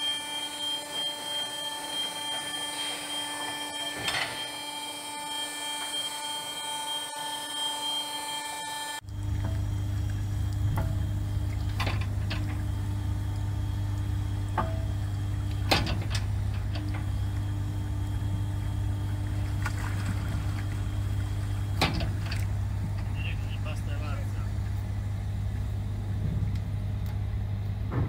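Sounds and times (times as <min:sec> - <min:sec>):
low machinery hum: 0:00.0 - 0:28.0.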